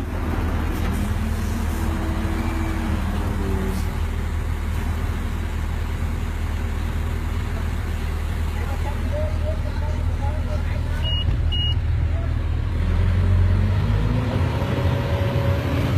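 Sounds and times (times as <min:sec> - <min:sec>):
heavy diesel engine droning: 0:00.0 - 0:15.9.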